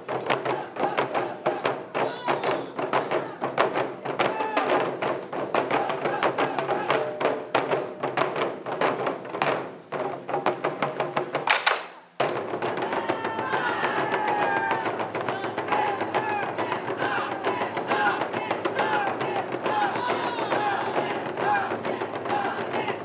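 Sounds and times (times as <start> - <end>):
taiko drums beaten fast: 0.0 - 23.0.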